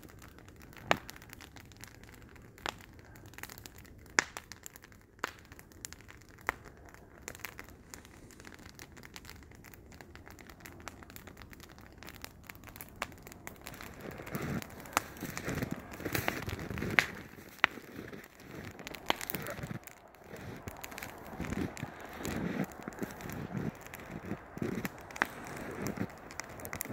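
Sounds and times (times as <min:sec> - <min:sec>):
snow crunching and crackling: 0:00.0 - 0:26.9.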